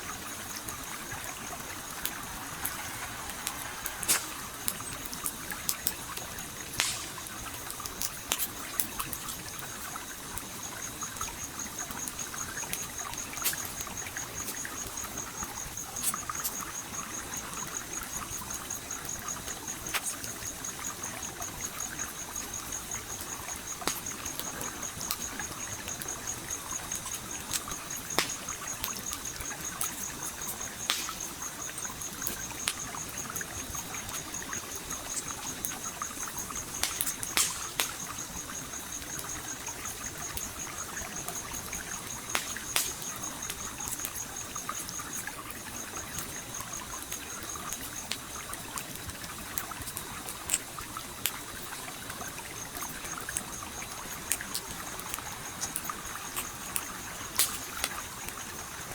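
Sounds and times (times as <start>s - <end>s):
campfire crackling and popping: 0.0s - 58.9s
stream flowing: 0.0s - 58.9s.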